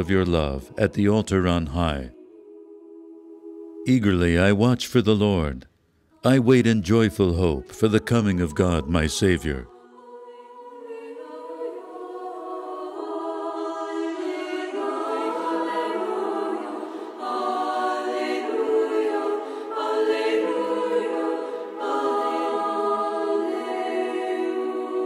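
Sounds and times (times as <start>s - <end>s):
choir singing held chords: 0.0s - 5.5s, 6.2s - 25.0s.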